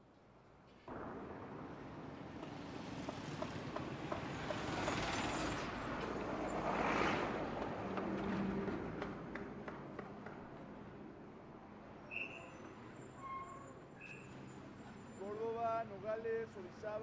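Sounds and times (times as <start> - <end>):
vehicles driving past: 0.7 - 17.0.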